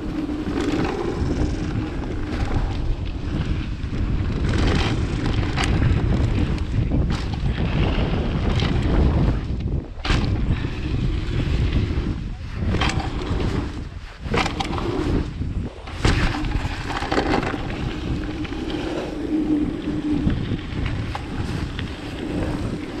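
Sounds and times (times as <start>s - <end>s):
bike knocks and rattles: 0.0s - 23.0s
tyres rolling over dirt: 0.0s - 23.0s
wind rushing over microphone: 0.0s - 23.0s.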